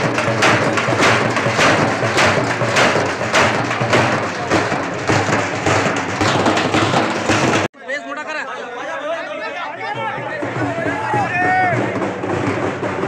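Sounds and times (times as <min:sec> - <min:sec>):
frame drums beaten with sticks: 0:00.0 - 0:07.7, 0:09.9 - 0:13.0.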